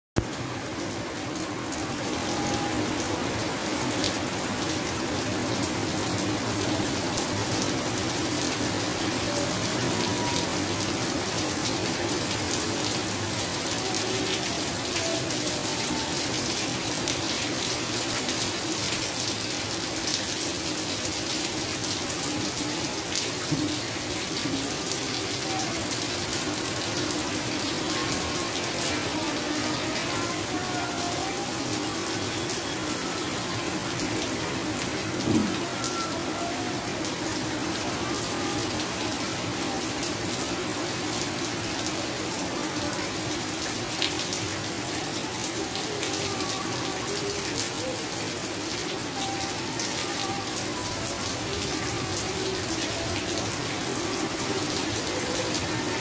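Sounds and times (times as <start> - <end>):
heavy rain on tiles: 0.2 - 56.0.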